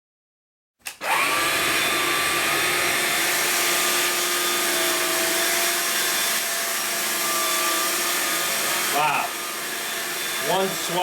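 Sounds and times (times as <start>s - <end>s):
vacuum motor whining: 0.9s - 11.0s.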